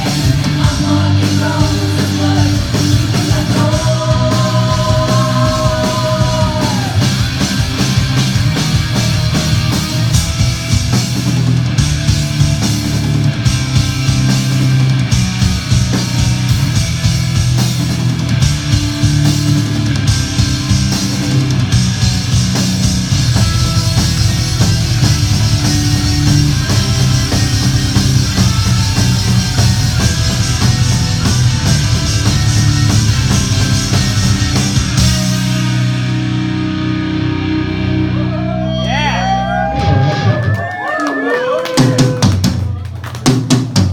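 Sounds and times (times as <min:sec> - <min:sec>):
distorted electric guitar: 0:00.0 - 0:40.8
drum kit: 0:00.0 - 0:40.8, 0:41.5 - 0:43.9
bass guitar: 0:00.0 - 0:43.9.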